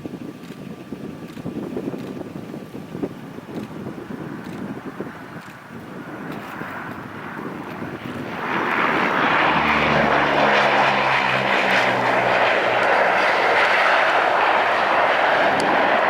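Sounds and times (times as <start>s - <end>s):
propeller drone: 0.0s - 16.0s
turboprop aircraft roar: 0.0s - 16.0s.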